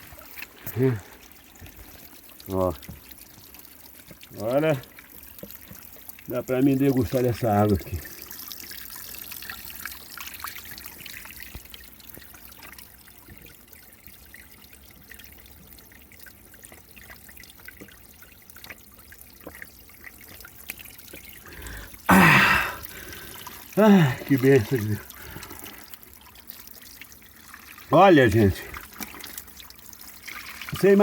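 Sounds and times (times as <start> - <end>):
water trickling from spout: 0.0 - 31.0.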